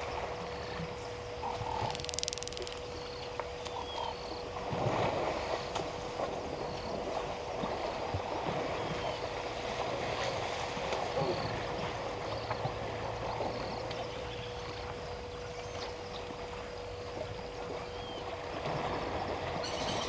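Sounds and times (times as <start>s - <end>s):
faint steady hum: 0.0s - 20.0s
water splashing and sloshing: 0.0s - 20.0s.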